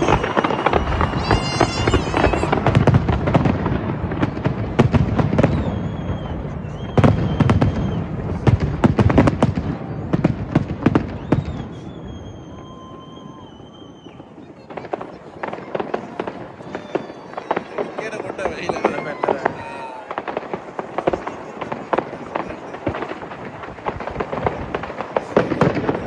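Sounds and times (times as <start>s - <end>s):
high firework whistles: 0.0s - 8.6s, 9.6s - 26.0s
fireworks bangs and crackles: 0.0s - 26.0s.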